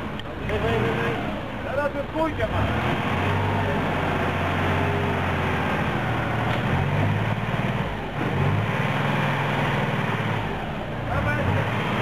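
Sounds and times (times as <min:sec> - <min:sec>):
diesel engine working under load: 0:00.0 - 0:12.0.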